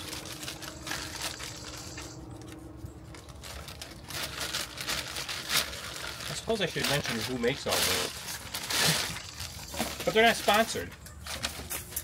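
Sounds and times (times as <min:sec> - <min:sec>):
packing paper crinkling: 0:00.0 - 0:12.0.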